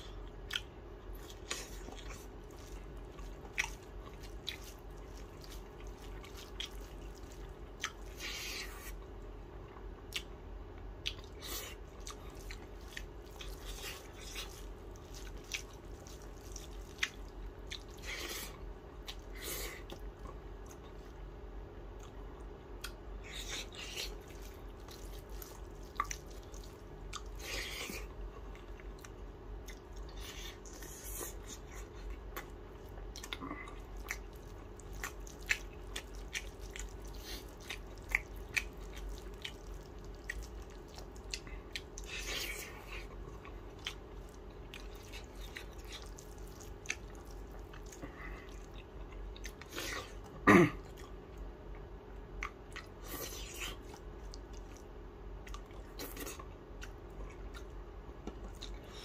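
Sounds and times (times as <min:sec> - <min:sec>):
person chewing with mouth smacks: 0:00.0 - 0:21.2, 0:21.9 - 0:59.0.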